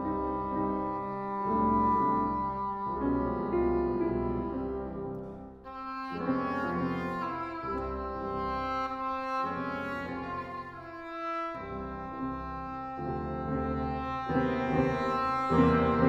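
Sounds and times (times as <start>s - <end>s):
clarinet: 0.0s - 16.0s
english horn: 0.0s - 16.0s
piano: 0.0s - 16.0s.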